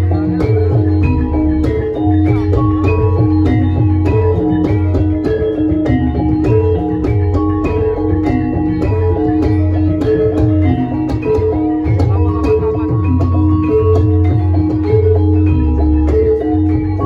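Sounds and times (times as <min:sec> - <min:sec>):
drum strokes: 0:00.0 - 0:17.0
metal mallet instruments ringing: 0:00.0 - 0:17.0.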